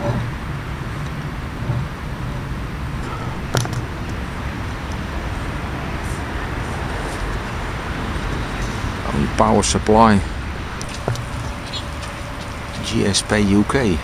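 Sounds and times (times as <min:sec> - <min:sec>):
outdoor background rumble: 0:00.0 - 0:14.0.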